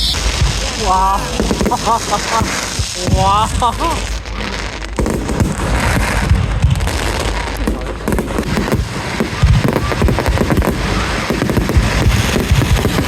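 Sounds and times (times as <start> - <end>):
fireworks bangs and crackles: 0.0 - 13.0
fireworks deep booms: 0.0 - 13.0.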